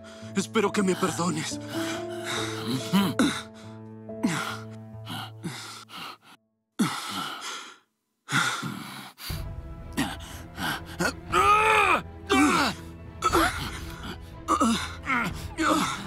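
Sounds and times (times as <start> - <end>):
men gasping and grunting: 0.0 - 16.0.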